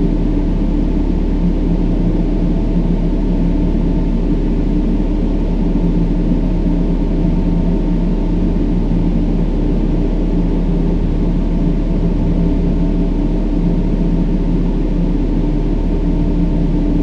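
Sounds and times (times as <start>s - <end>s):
faint low drone: 0.0s - 17.0s.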